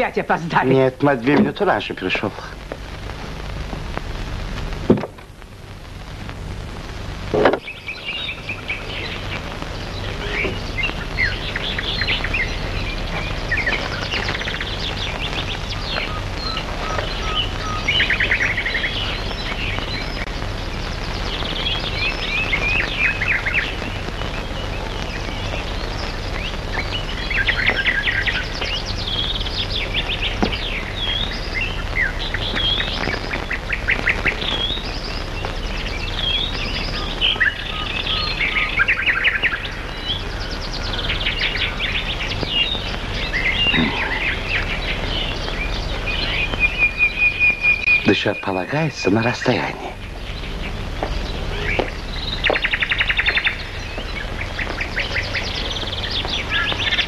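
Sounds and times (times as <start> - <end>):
songbirds chirping and trilling: 0.0 - 4.9, 5.8 - 57.0
steady low hum: 0.0 - 57.0.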